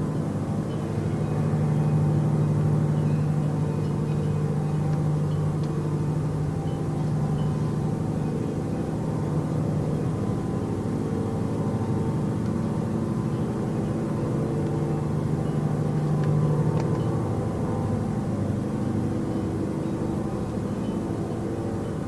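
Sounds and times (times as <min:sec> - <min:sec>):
low mechanical drone: 0:00.0 - 0:22.0.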